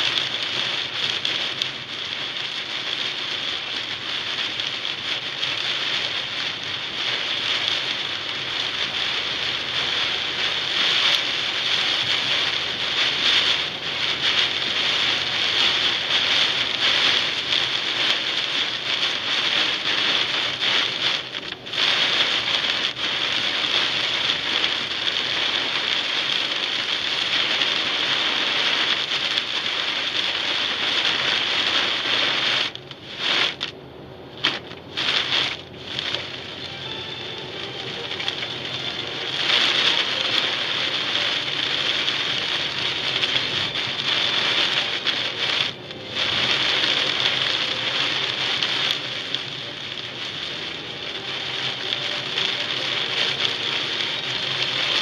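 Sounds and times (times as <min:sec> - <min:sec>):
heavy rain on car windshield: 0:00.0 - 0:55.0.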